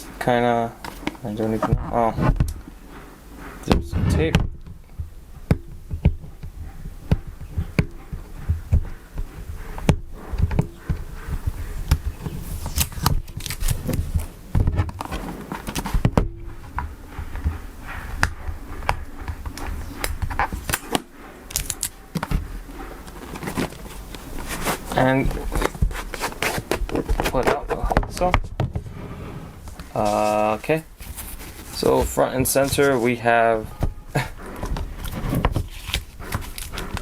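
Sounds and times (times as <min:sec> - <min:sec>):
tape scraping rustles: 0:00.0 - 0:37.0.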